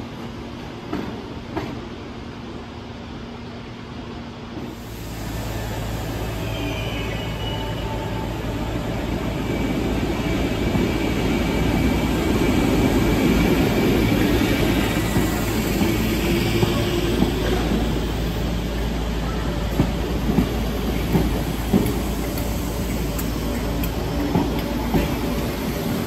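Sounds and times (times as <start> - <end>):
electric train pulling away: 4.7 - 26.0.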